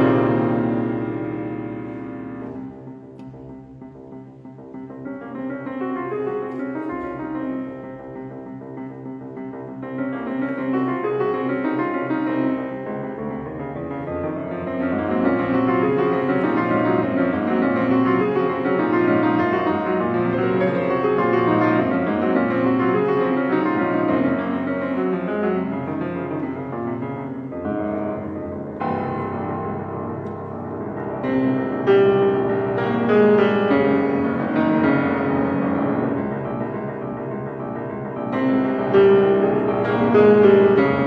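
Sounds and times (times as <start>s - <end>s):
grand piano playing: 0.0s - 41.0s.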